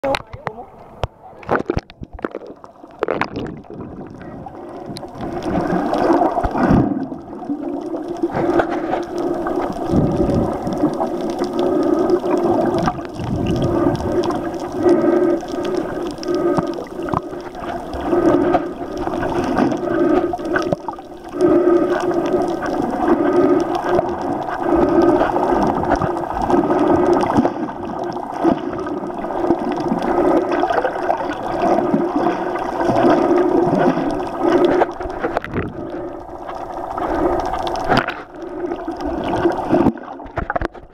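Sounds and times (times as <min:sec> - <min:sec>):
low underwater hum: 0:00.0 - 0:40.9
water sloshing underwater: 0:00.0 - 0:40.9.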